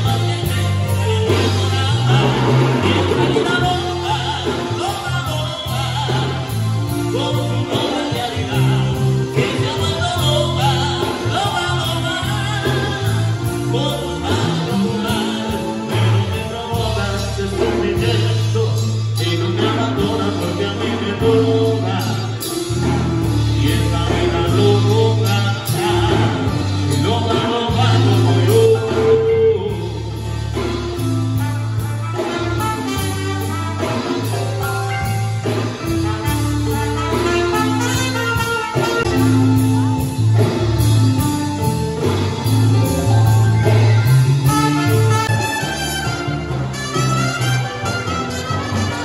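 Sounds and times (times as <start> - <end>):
person singing: 0.0 - 49.0
steady bass line: 0.0 - 49.0.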